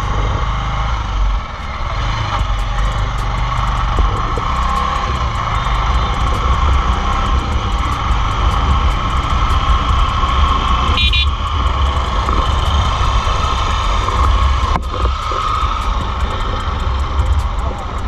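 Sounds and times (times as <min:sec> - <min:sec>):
engine and road noise: 0:00.0 - 0:18.0
heavy low rumble: 0:00.0 - 0:18.0.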